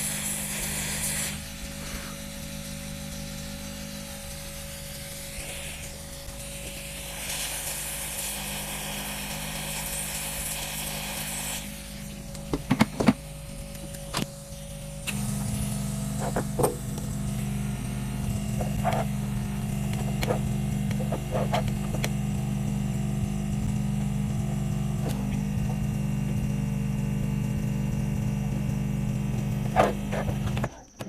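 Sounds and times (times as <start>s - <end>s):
small electric tool humming: 0.0s - 31.0s.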